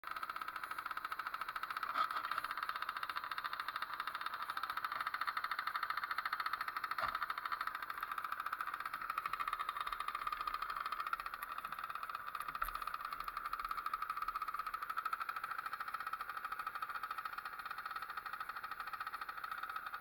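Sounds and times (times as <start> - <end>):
small two-stroke engine running: 0.0 - 20.0.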